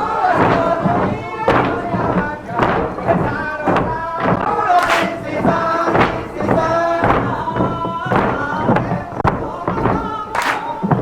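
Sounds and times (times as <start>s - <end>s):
crowd singing folk song: 0.0s - 11.0s
feet thudding on wooden floor: 0.0s - 11.0s.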